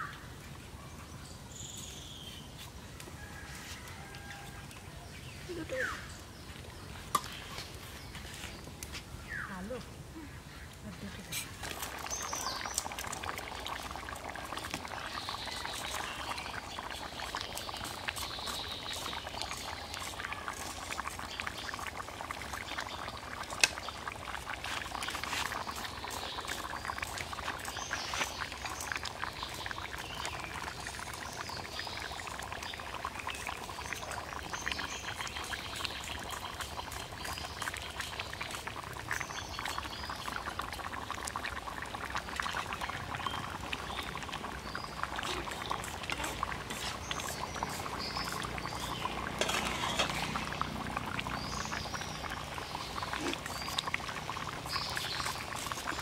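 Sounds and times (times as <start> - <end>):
curry bubbling and crackling: 1.5 - 56.0.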